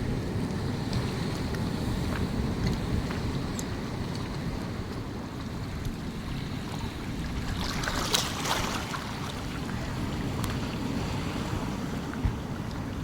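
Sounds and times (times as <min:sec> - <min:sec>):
surf: 0:00.0 - 0:13.0
wave washing in: 0:00.0 - 0:13.0
wind on microphone: 0:00.0 - 0:13.0.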